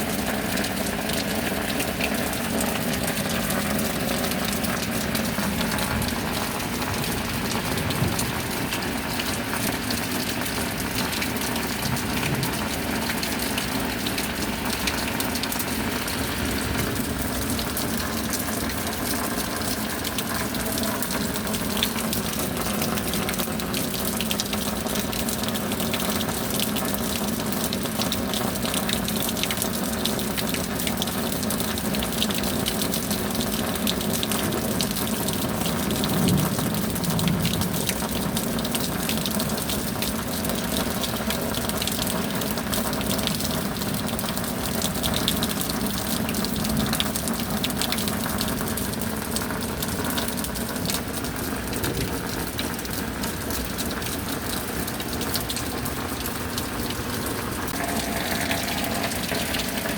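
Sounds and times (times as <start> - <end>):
running water: 0.0 - 59.9
steady rain: 0.0 - 59.9.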